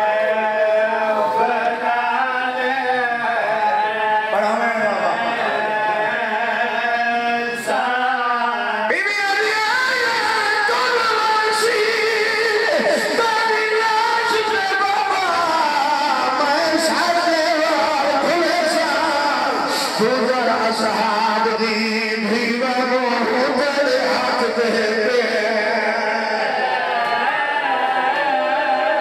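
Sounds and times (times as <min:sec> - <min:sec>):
man singing through a pa: 0:00.0 - 0:29.0.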